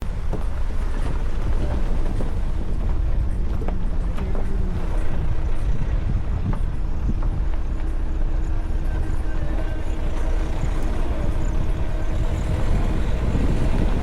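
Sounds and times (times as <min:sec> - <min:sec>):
vehicle engine and tyres rumbling: 0:00.0 - 0:14.0.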